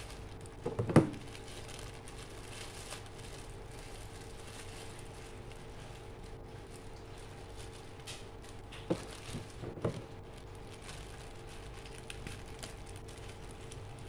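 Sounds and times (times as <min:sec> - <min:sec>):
faint hum: 0:00.0 - 0:14.0
parcel packaging rustling: 0:00.0 - 0:14.0.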